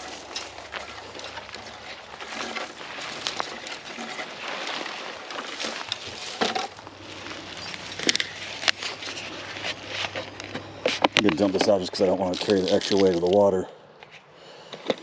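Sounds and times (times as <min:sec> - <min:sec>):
footsteps on forest floor: 0:00.0 - 0:13.6
light crunches and clicks: 0:00.0 - 0:15.0.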